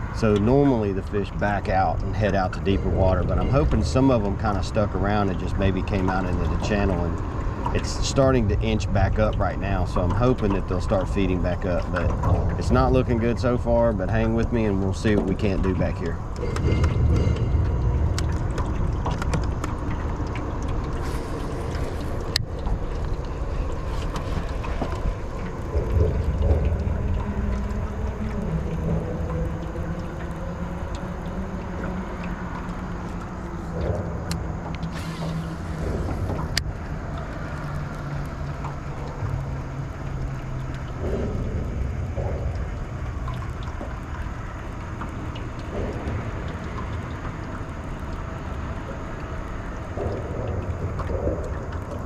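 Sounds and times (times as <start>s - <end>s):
low motor drone: 0.0s - 52.0s
wind buffeting microphone: 0.0s - 52.0s.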